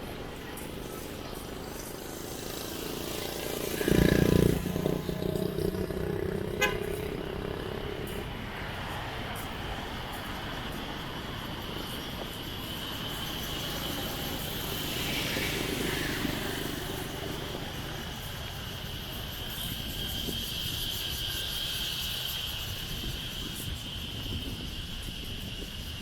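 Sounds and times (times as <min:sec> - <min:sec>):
passing motor traffic: 0:00.0 - 0:25.7
wind and road noise: 0:00.0 - 0:26.0.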